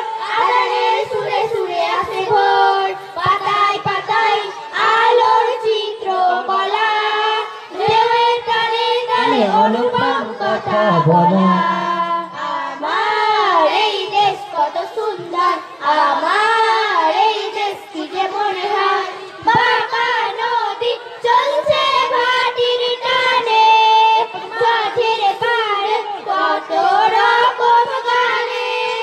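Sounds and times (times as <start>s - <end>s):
girls singing together: 0.0s - 29.0s.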